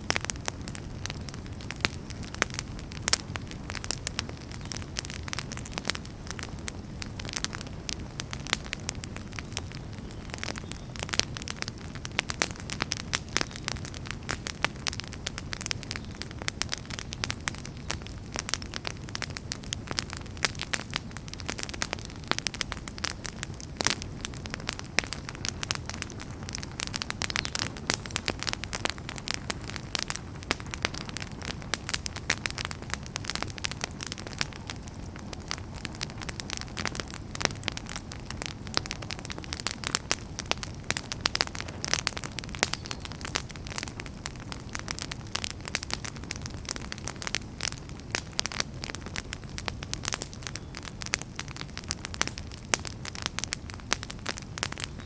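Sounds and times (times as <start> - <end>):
low roar of flames: 0.0 - 55.0
wood fire crackling and popping: 0.0 - 55.0.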